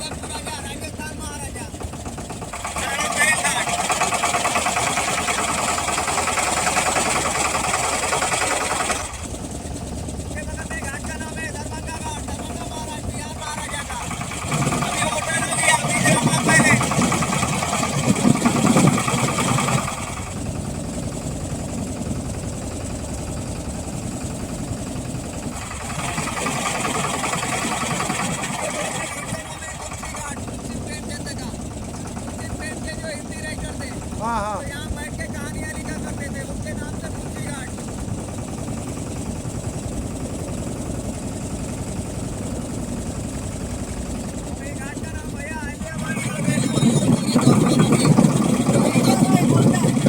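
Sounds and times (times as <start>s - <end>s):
motorboat engine rumbling: 0.0s - 50.0s.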